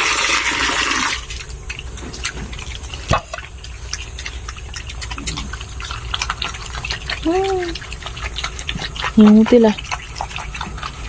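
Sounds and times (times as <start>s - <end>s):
pigs slurping wet feed: 0.0s - 11.0s.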